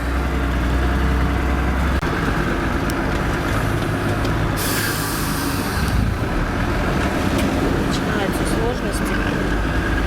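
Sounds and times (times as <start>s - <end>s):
truck diesel engine drone: 0.0s - 10.0s.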